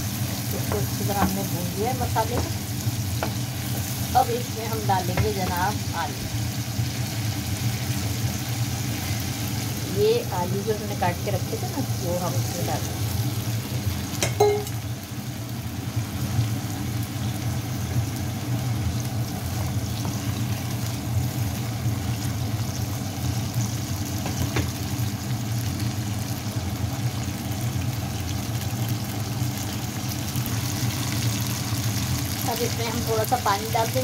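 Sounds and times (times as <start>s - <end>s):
low constant hum: 0.0s - 34.0s
potatoes frying in oil: 0.0s - 34.0s.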